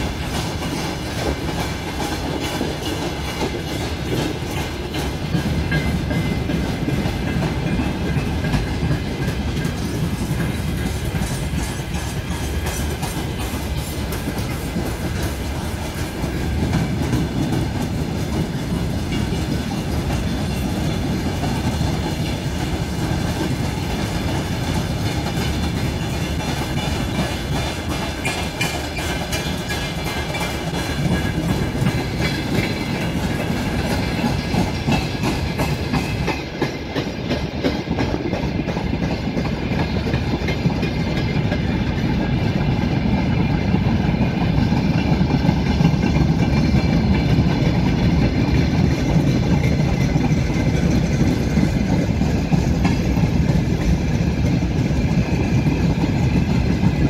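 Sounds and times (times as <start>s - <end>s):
freight train rumble: 0.0s - 57.0s
wheels clacking over rail joints: 0.0s - 57.0s.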